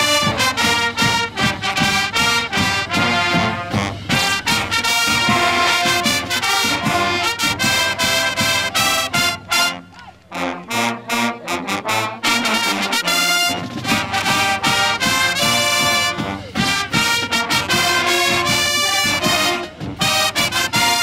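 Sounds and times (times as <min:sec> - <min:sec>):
drums: 0:00.0 - 0:21.0
horns playing a phrase: 0:00.0 - 0:21.0
marching band playing: 0:00.0 - 0:21.0.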